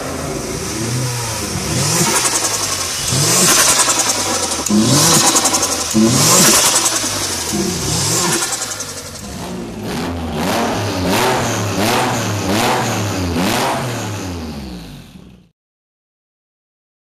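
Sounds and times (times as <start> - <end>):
car engine revving: 0.0 - 15.5.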